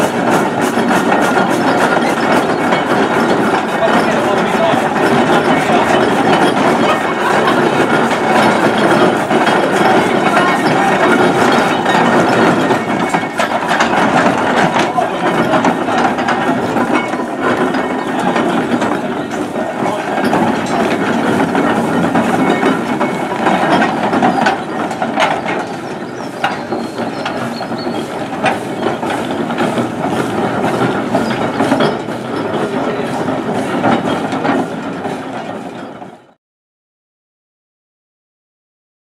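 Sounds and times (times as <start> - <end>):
iron rolls rumbling: 0.0 - 36.3
steam roller gearing clattering: 0.0 - 36.4.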